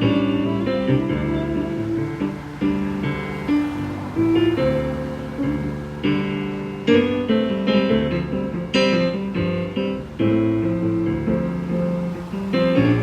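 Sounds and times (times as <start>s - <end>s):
keyboard playing chords: 0.0s - 13.0s.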